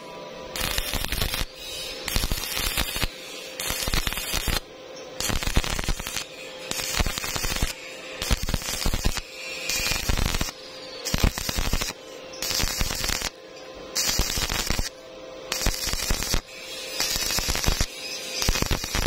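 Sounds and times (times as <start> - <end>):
electrical hum: 0.0 - 19.0
welding arc crackling: 0.5 - 19.0.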